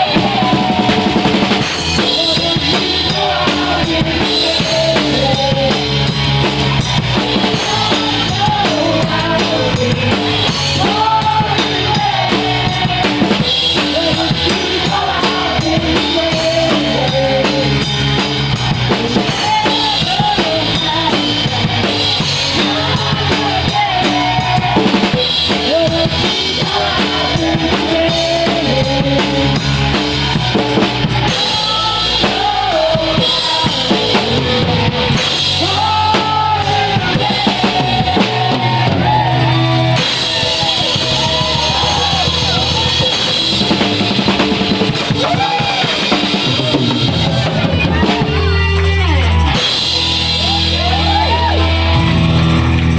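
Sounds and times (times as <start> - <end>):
loud drum kit: 0.0 - 52.9
rock band playing: 0.0 - 52.9.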